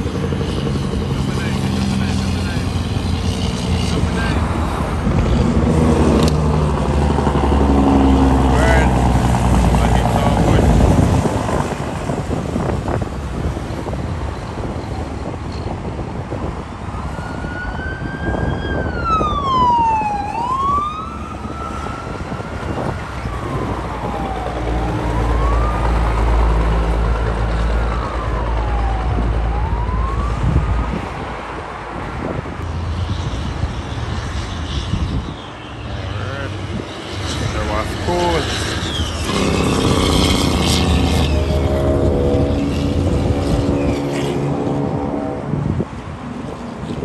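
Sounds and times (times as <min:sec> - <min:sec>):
deep truck engine drone: 0:00.0 - 0:14.8, 0:18.2 - 0:31.6, 0:32.5 - 0:47.0
emergency siren wailing: 0:00.0 - 0:32.0, 0:33.6 - 0:45.5
diesel trucks passing: 0:00.0 - 0:47.0.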